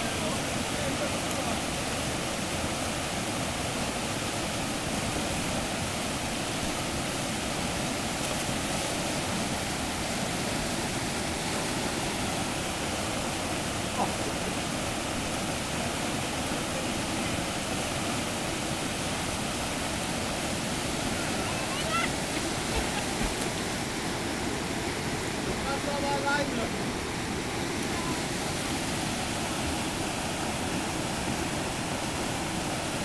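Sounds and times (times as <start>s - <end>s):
whitewater rapids roaring: 0.0s - 33.0s.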